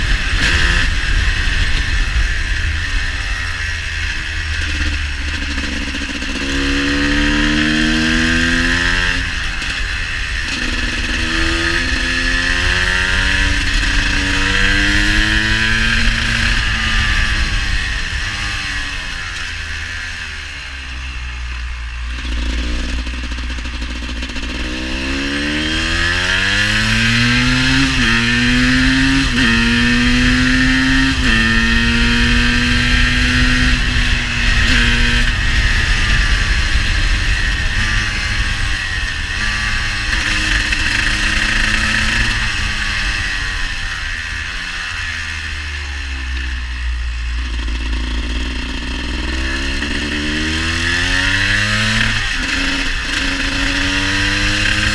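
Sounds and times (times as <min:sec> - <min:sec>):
two-stroke motorcycle engine accelerating: 0:00.0 - 0:54.9.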